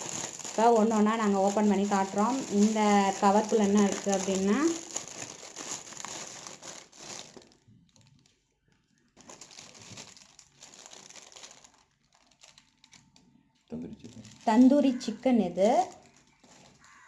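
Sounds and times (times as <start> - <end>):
plastic food cover crinkling: 0.0 - 17.0.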